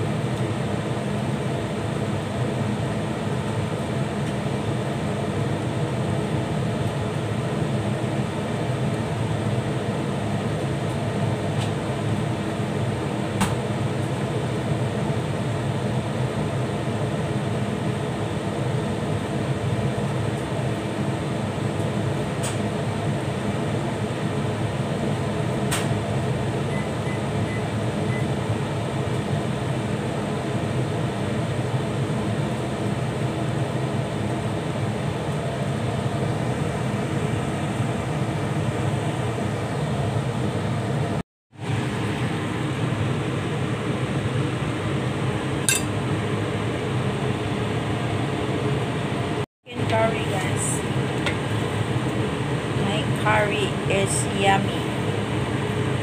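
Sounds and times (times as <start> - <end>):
fan humming: 0.0 - 56.0.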